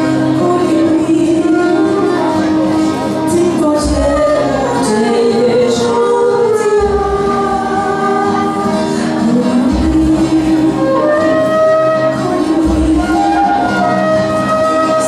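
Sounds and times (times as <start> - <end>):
live band music: 0.0 - 15.0
voices singing long notes: 0.2 - 15.0.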